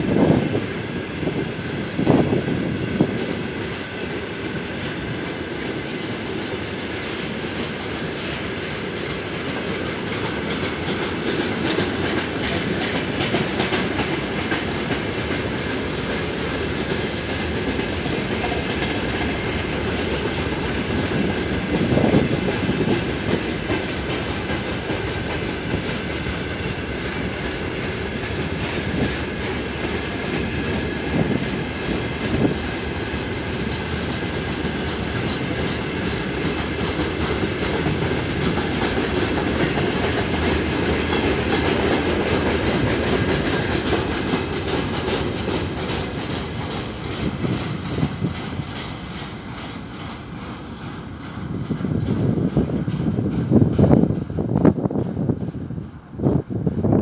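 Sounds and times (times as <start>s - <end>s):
steel wheels rumbling on rails: 0.0s - 57.0s
rhythmic clickety-clack: 0.1s - 57.0s.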